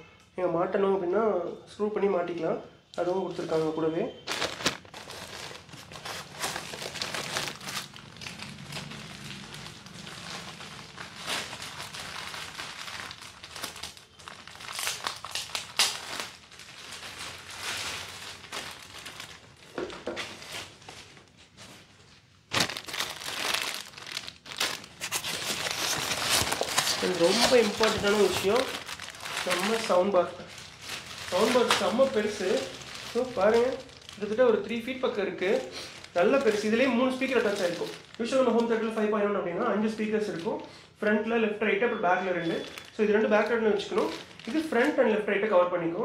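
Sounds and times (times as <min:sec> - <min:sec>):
plastic bags crinkling: 0:03.2 - 0:41.0, 0:42.2 - 0:45.5.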